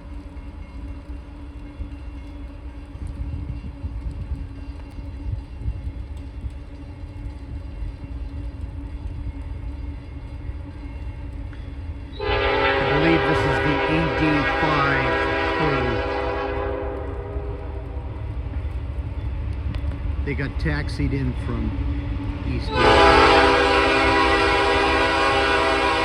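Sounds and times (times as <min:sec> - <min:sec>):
diesel locomotives rumbling: 0:00.0 - 0:26.0.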